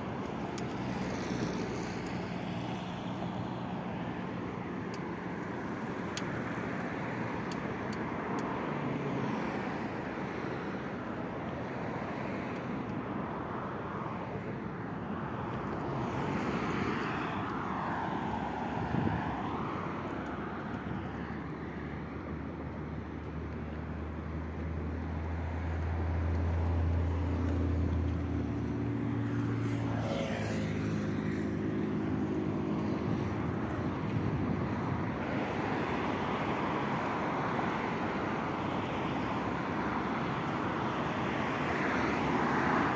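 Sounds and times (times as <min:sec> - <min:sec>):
road traffic rushing: 0:00.0 - 0:42.9.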